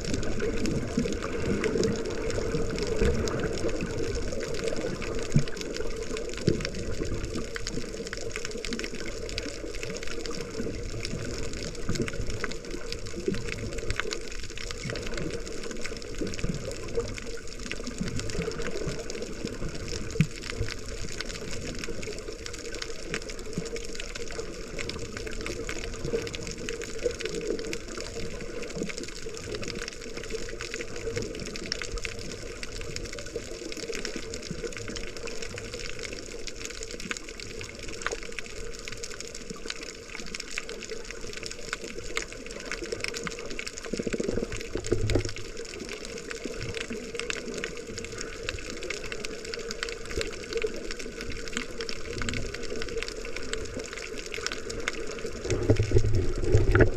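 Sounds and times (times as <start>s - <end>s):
muffled water sloshing and rushing: 0.0s - 56.9s.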